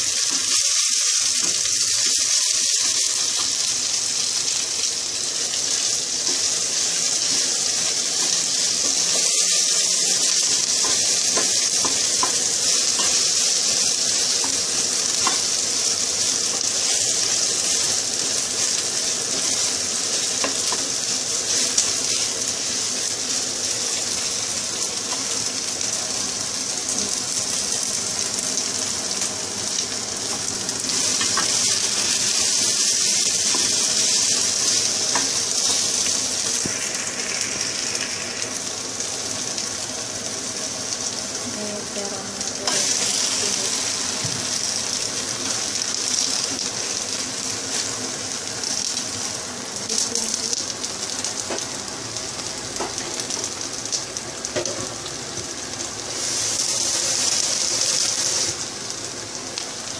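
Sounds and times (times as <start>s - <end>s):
ingredients sizzling in hot oil: 0.0s - 59.9s.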